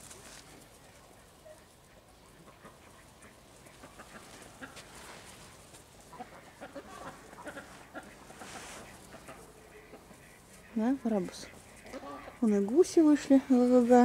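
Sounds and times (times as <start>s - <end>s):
geese cackling: 0.6s - 14.0s.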